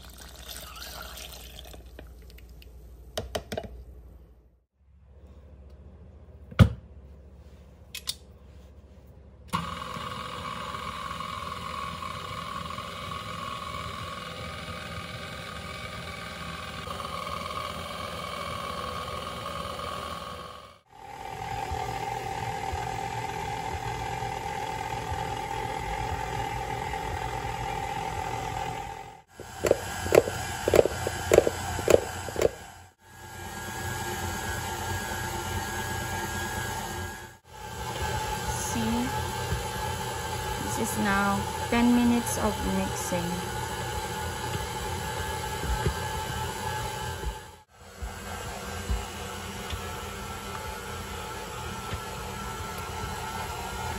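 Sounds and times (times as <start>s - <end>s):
stand mixer motor whining: 9.6s - 53.9s.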